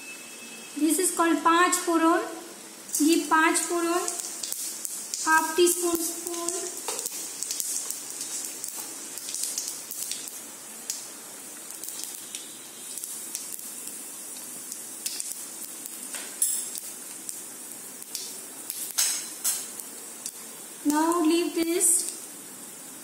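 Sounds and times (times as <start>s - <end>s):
hot oil sizzling: 0.0s - 23.0s
crackles and pops of frying: 2.7s - 23.0s.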